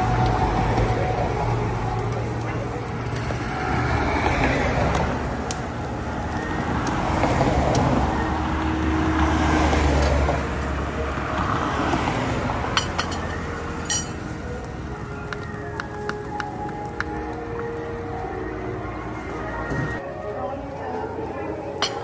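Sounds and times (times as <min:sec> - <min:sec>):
passing vehicle rumble: 0:00.0 - 0:21.9.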